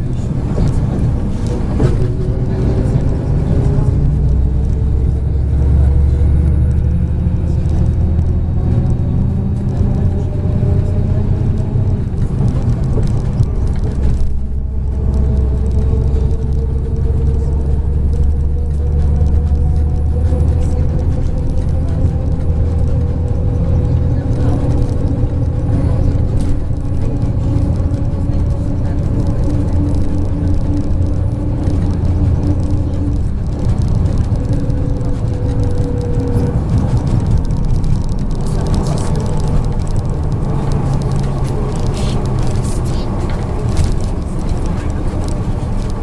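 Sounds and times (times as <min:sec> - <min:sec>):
bus engine and road rumble: 0:00.0 - 0:46.0
engine whine climbing: 0:00.0 - 0:46.0.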